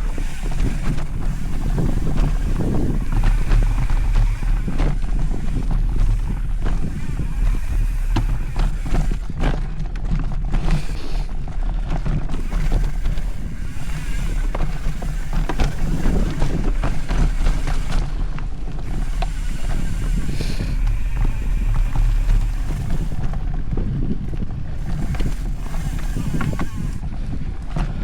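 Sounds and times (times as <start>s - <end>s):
bike clicking and rattling: 0.0s - 28.0s
tyres rumbling on dirt: 0.0s - 28.0s
wind buffeting microphone: 0.0s - 28.0s.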